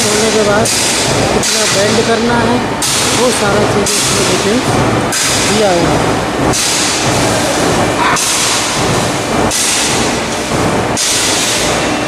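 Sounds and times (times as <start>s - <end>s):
machinery rumble and hiss: 0.0s - 12.0s.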